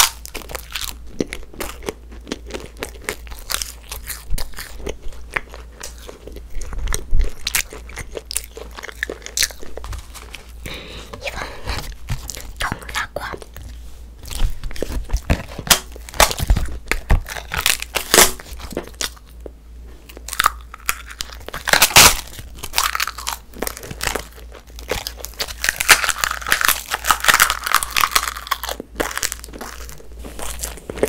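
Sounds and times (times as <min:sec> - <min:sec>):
chewing crunchy edible paper: 0:00.0 - 0:31.0.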